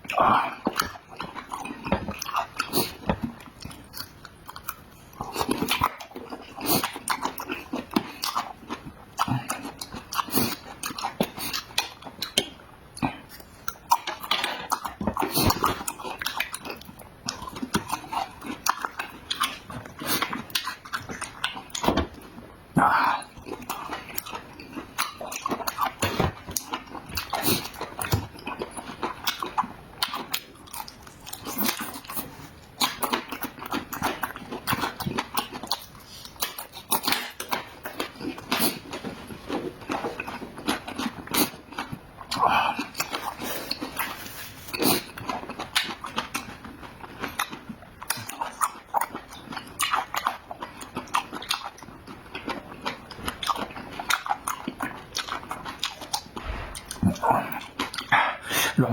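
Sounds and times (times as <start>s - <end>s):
person chewing food: 0.0s - 58.9s.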